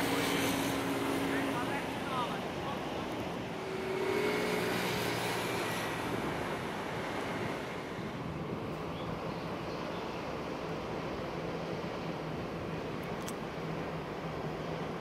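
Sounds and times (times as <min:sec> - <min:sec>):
rush of wind and water: 0:00.0 - 0:15.0.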